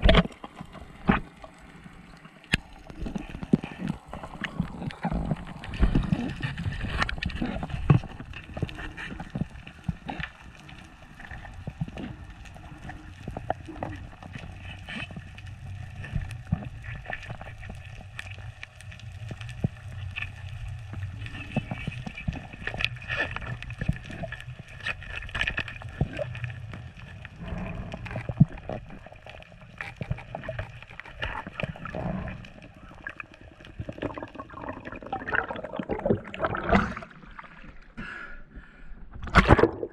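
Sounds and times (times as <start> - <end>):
underwater rush of water: 0.0 - 38.0, 39.2 - 39.9
underwater clicks and crackles: 0.0 - 39.9.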